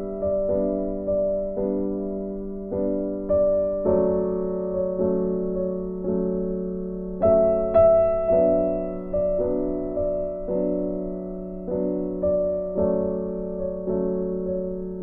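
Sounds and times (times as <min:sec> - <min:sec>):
gentle electric piano chords: 0:00.0 - 0:15.0.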